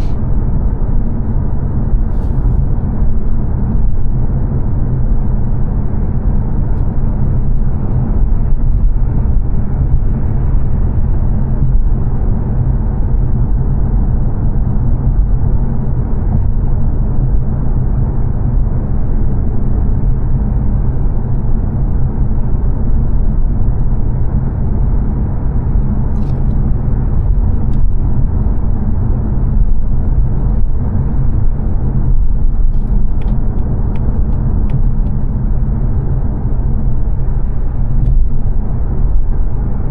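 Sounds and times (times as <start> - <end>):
engine hum: 0.0 - 39.9
road and tyre noise in car cabin: 0.0 - 39.9.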